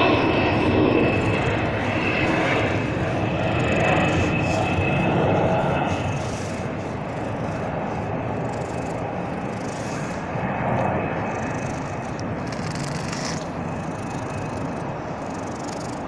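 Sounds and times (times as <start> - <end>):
brush rasping through fur: 0.0 - 16.0
cat purring: 1.2 - 16.0.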